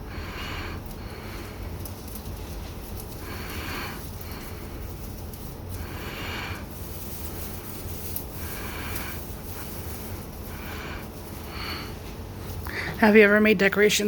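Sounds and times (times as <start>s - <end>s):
person breathing: 0.0s - 13.0s.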